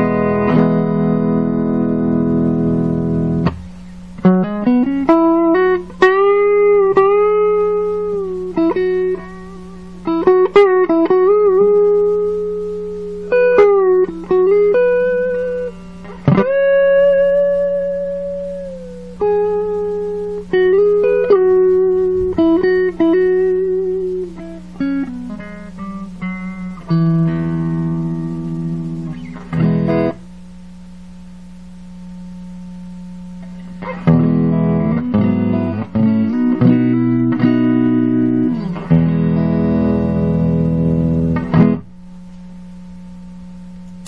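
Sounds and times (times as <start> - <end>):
clean electric guitar notes: 0.0 - 30.3, 32.1 - 42.9.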